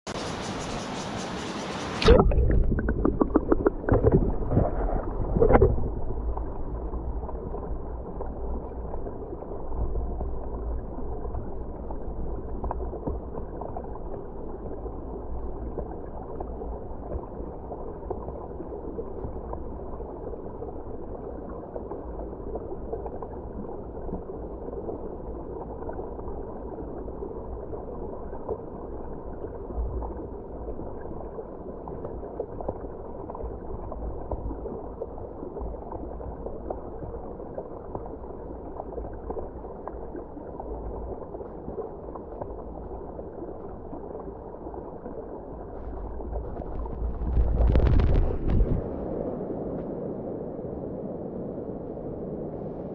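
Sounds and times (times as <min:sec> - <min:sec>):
muffled underwater stream rushing: 0:00.1 - 0:52.9.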